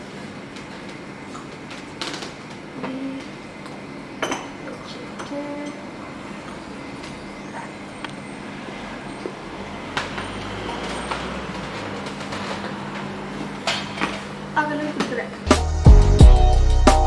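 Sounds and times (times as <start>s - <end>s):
cafe machinery hum and hiss: 0.0s - 15.8s.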